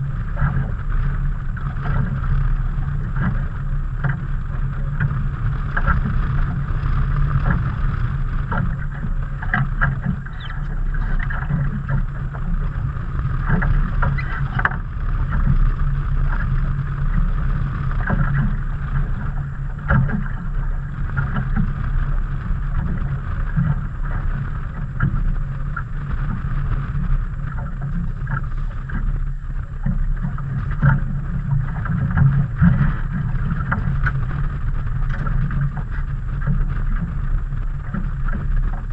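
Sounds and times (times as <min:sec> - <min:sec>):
steady low rumble: 0:00.0 - 0:38.9
water slapping against hull: 0:00.0 - 0:38.9
wind on microphone: 0:00.0 - 0:38.9.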